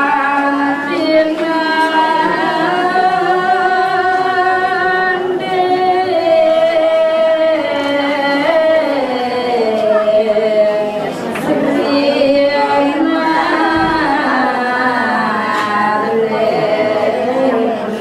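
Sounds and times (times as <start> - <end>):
person singing long sliding notes: 0.0 - 18.0.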